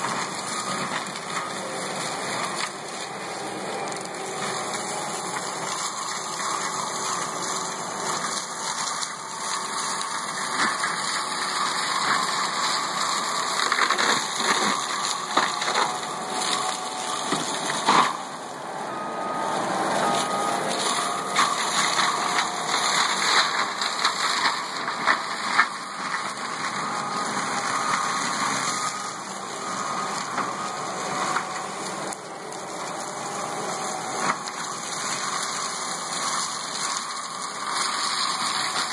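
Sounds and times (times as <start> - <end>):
mulching mower running: 0.0 - 38.9.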